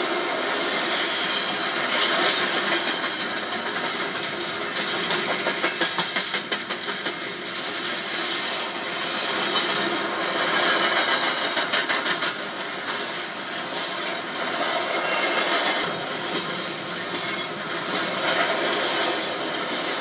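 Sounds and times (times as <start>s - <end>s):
steel wheels rushing on rail: 0.0s - 20.0s
wheels clicking over rail joints: 1.5s - 8.6s, 9.2s - 20.0s.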